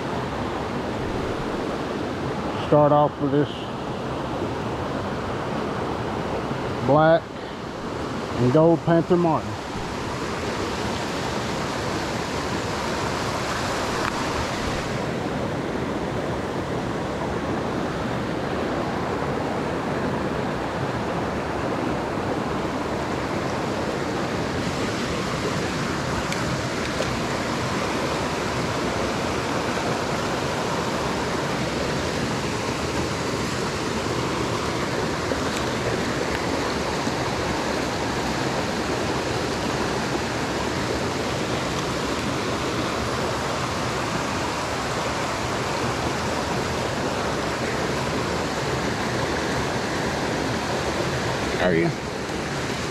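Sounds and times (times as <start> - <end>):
creek water rushing: 0.0 - 52.9.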